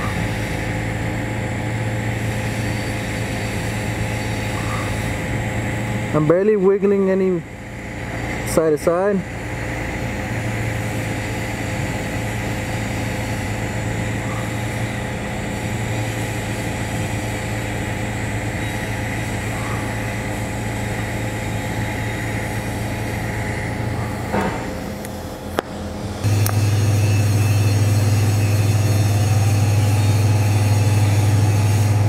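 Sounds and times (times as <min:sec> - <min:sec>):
welding arc humming and hissing: 0:00.0 - 0:32.0.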